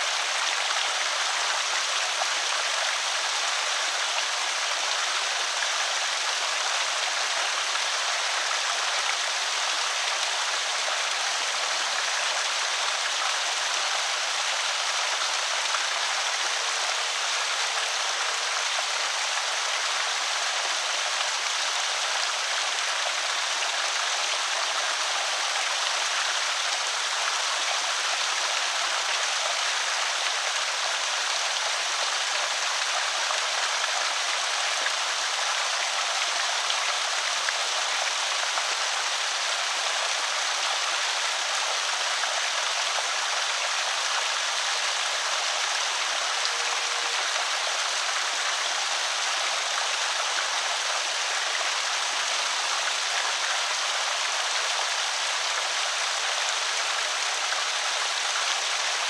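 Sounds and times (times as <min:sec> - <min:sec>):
water pouring over spillway: 0:00.0 - 0:59.0.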